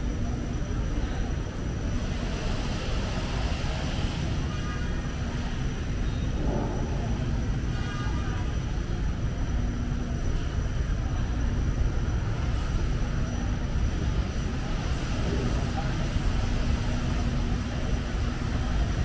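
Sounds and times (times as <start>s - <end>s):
faint voices of passers-by: 0.0s - 19.0s
low rumble of street traffic: 0.0s - 19.0s.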